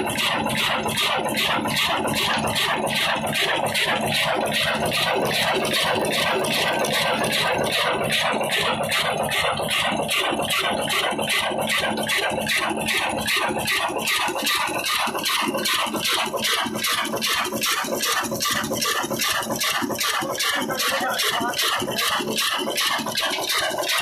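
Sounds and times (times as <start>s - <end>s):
diesel engine clattering: 0.0s - 24.0s.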